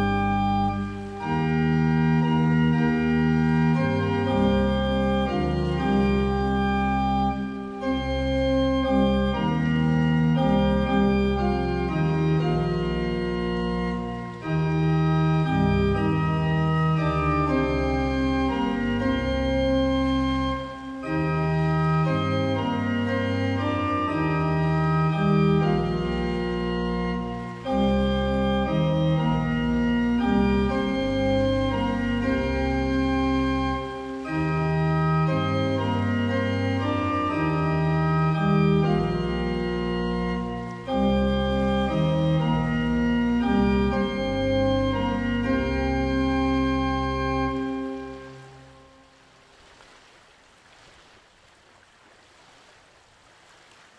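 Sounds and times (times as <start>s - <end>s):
organ playing hymn chords: 0.0s - 49.2s.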